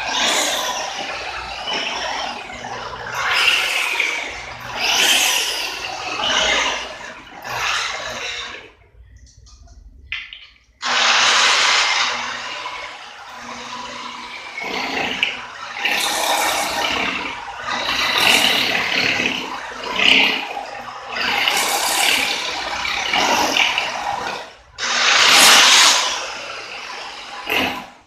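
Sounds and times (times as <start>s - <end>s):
electric drill grinding into wall: 0.0s - 8.7s, 10.8s - 28.0s.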